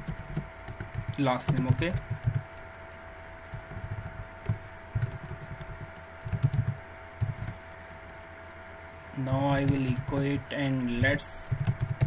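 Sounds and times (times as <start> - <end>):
computer keyboard typing: 0.0 - 8.3, 9.2 - 10.4, 11.0 - 12.0.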